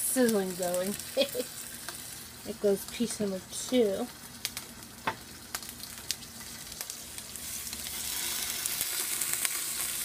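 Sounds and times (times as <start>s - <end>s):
fish sizzling in a frying pan: 0.0s - 10.0s.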